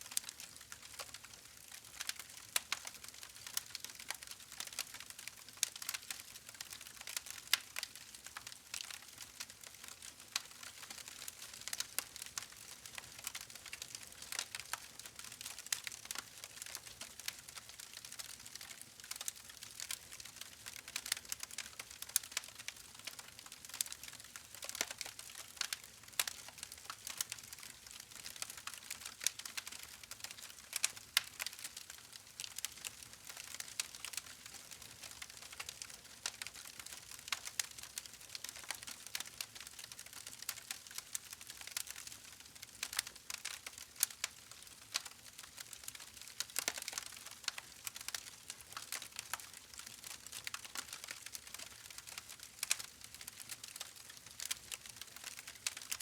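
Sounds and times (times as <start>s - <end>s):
campfire crackling and popping: 0.1s - 56.0s.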